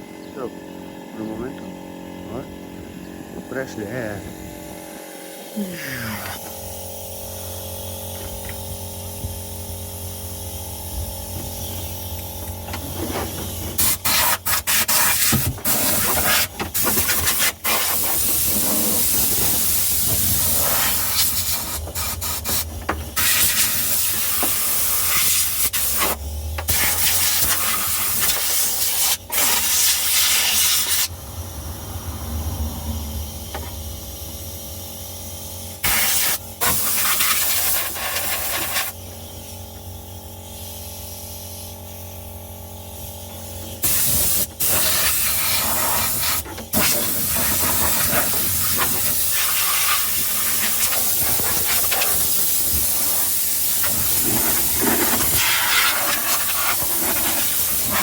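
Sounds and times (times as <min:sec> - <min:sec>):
air compressor hum: 0:00.0 - 0:58.0
air blow gun hissing: 0:05.3 - 0:31.6, 0:33.1 - 0:39.7, 0:42.9 - 0:58.0.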